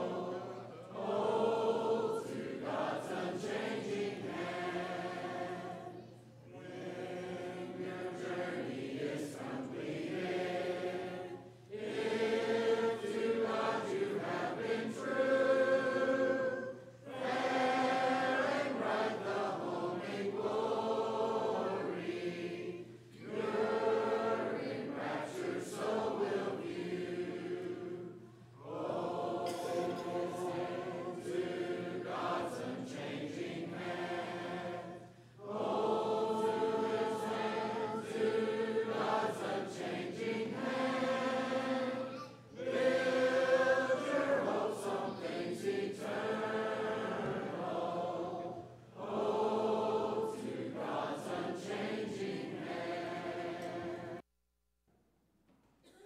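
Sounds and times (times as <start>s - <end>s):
congregation singing a hymn: 0.0s - 54.2s.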